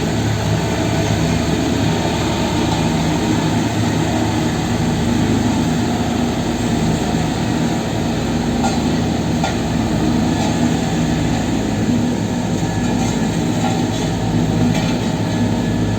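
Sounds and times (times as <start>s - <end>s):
diesel machinery running: 0.0s - 15.9s.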